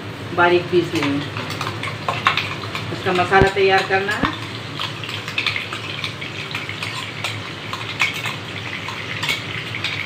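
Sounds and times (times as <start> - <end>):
paste sizzling in hot oil: 0.9 - 10.0.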